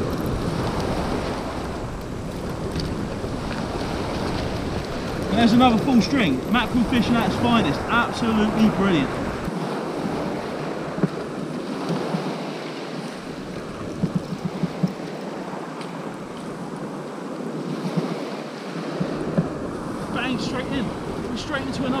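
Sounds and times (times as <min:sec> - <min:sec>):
waves washing up a shingle beach: 0:00.0 - 0:22.0
wind on microphone: 0:00.0 - 0:22.0.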